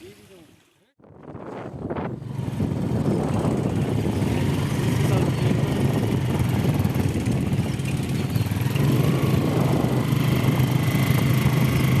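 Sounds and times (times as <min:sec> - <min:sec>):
engine humming: 0:02.0 - 0:12.0.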